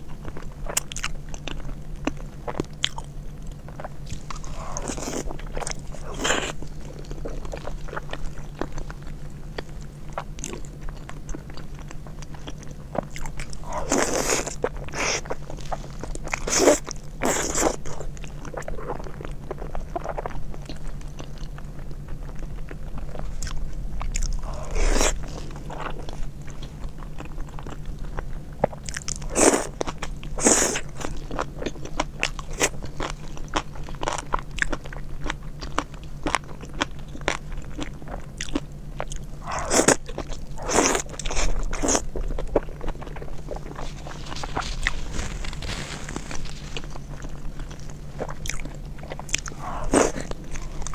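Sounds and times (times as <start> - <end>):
biting and chewing meat: 0.0 - 50.9
low steady hum: 0.0 - 50.9.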